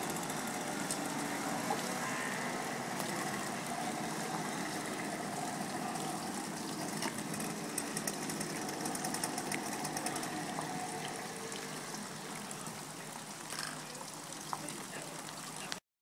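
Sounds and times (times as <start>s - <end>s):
moped engines idling: 0.0s - 14.0s.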